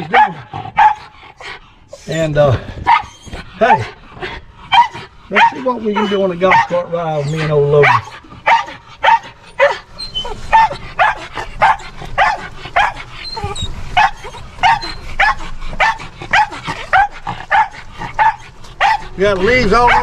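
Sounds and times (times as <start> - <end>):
dog barking: 0.0 - 1.1, 2.8 - 3.9, 4.7 - 20.0.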